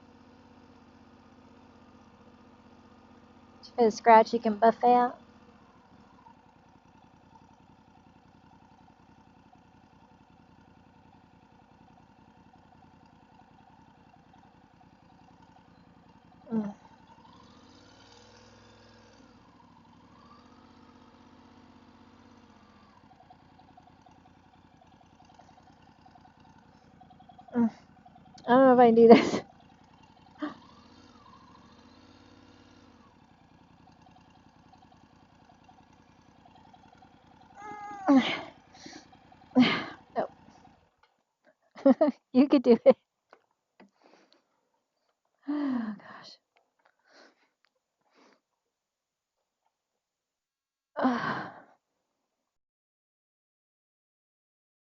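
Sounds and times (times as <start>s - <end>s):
motorcycle engine idling: 0.0s - 47.4s.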